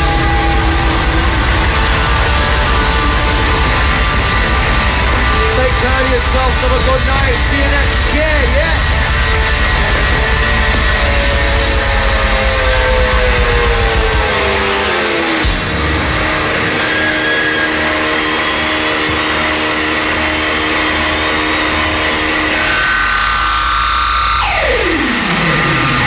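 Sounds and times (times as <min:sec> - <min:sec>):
electric guitar feedback: 0:00.0 - 0:26.0.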